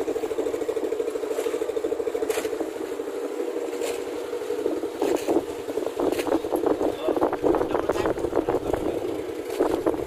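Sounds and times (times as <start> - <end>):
small boat engine chugging: 0.0 - 10.0.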